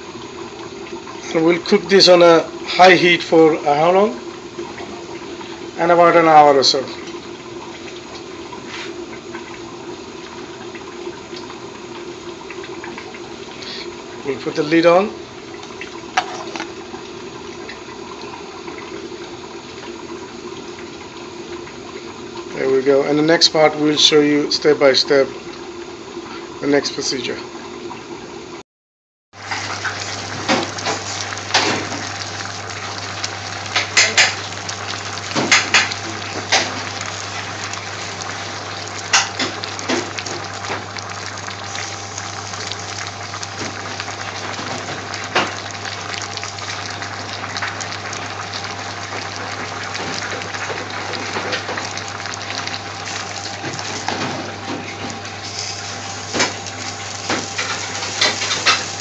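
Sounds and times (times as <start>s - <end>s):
water boiling and bubbling: 0.0s - 28.6s, 29.3s - 59.0s.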